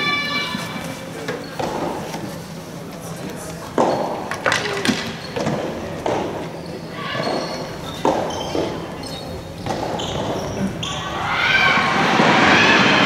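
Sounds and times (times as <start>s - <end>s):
tennis balls hitting rackets and floor: 1.2s - 2.4s, 3.4s - 13.0s.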